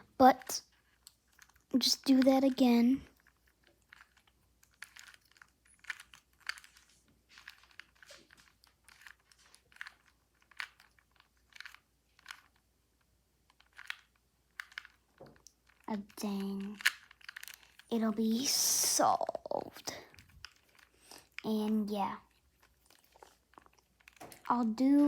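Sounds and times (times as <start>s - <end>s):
plastic puzzle cube clicking: 3.2s - 25.0s.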